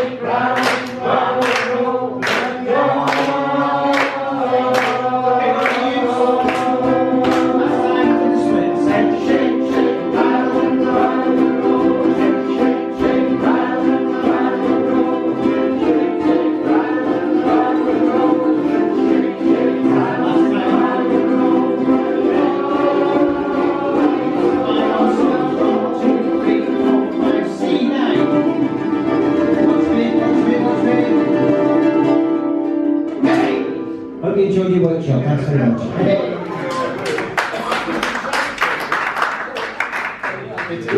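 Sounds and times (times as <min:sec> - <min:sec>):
group singing: 0:00.0 - 0:34.2
ukulele band strumming: 0:00.0 - 0:40.9.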